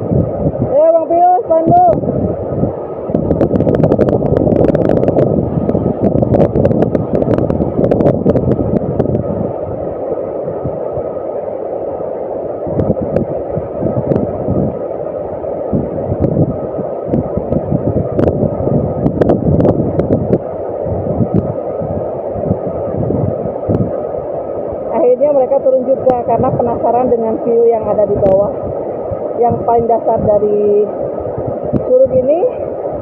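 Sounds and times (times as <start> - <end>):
steady rushing roar: 0.0 - 33.0
wind buffeting microphone: 0.0 - 33.0.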